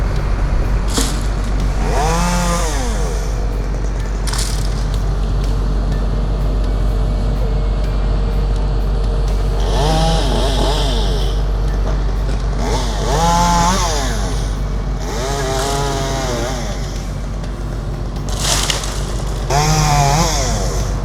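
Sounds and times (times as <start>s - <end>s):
chainsaw revving: 0.0s - 21.0s
steady low drone: 0.0s - 21.0s.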